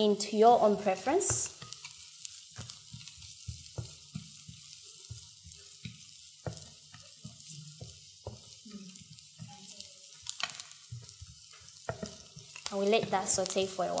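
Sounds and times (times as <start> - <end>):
onion and garlic sizzling in oil: 0.0 - 14.0
spatula scraping and knocking pan: 0.8 - 14.0.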